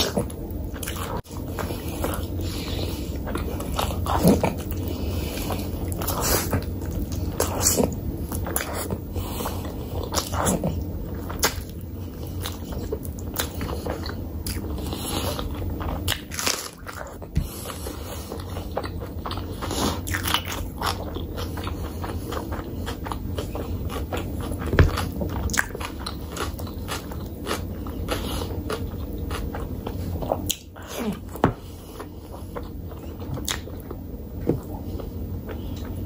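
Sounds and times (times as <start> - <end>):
person chewing and biting: 0.0 - 36.0.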